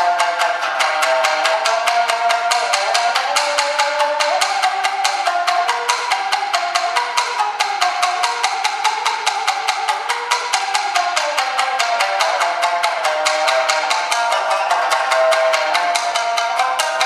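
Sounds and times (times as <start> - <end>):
shamisen played with plectrum: 0.0 - 17.0.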